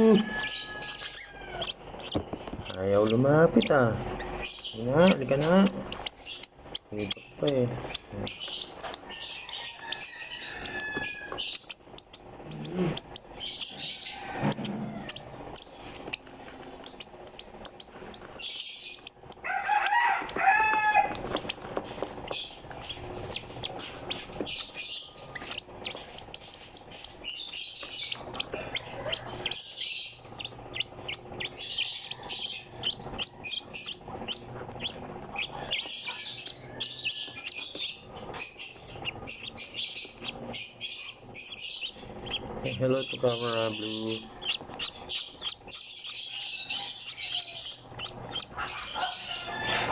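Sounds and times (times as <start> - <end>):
lovebird chirping: 0.0 - 21.7, 22.3 - 49.9.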